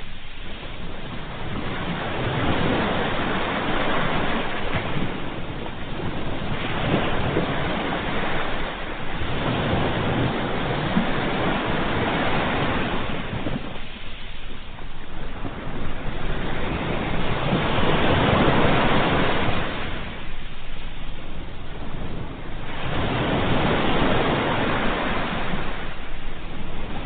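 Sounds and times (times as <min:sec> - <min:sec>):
ocean waves breaking on shore: 0:00.0 - 0:27.0.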